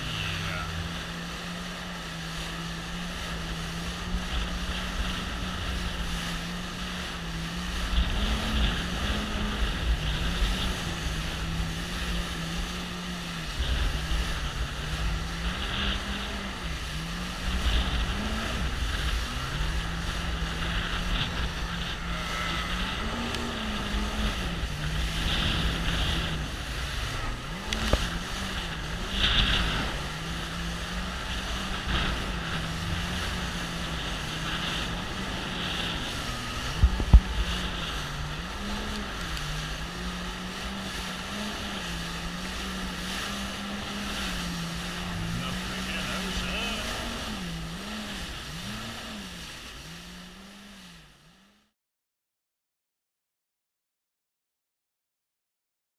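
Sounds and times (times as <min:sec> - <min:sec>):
wind buffeting microphone: 0:00.0 - 0:50.5
jet ski engine running: 0:00.0 - 0:51.8.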